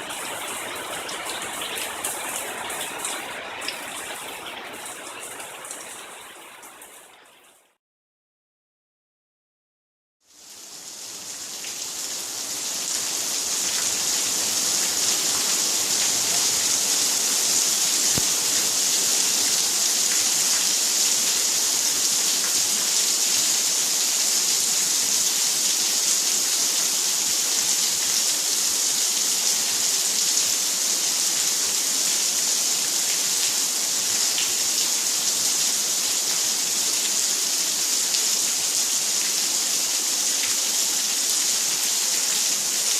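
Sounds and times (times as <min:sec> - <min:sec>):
rain falling steadily: 0:00.0 - 0:07.8, 0:10.2 - 0:42.9.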